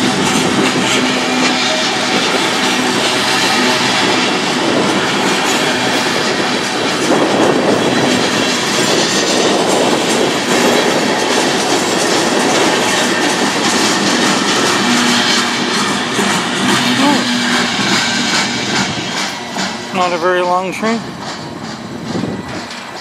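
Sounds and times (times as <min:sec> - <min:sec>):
steel wheels rushing on rails: 0:00.0 - 0:23.0.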